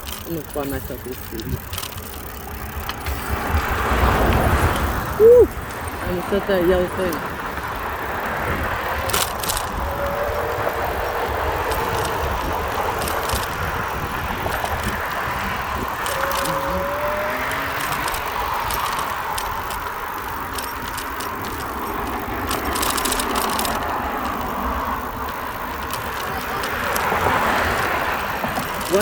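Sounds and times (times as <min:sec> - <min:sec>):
bike clicks and rattles: 0:00.0 - 0:29.0
road noise: 0:00.0 - 0:29.0
wind rumbling on microphone: 0:01.0 - 0:29.0.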